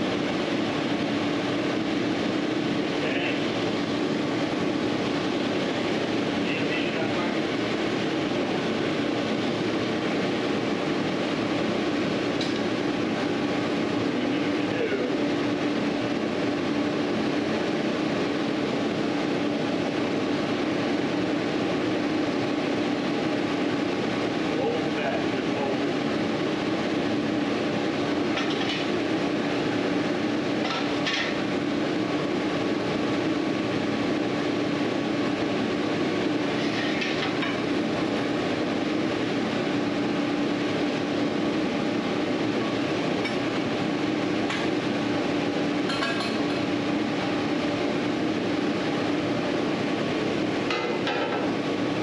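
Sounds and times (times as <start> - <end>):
low droning hum: 0.0 - 52.0.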